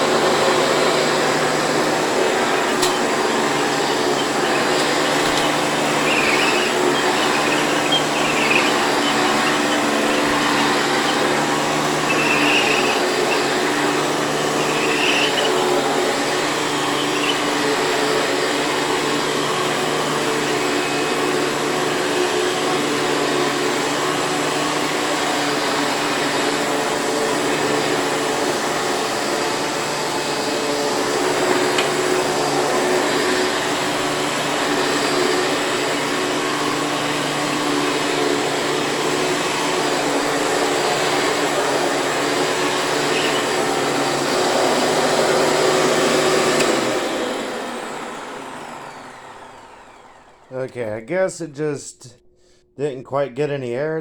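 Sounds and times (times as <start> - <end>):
vacuum cleaner running: 0.0 - 50.7.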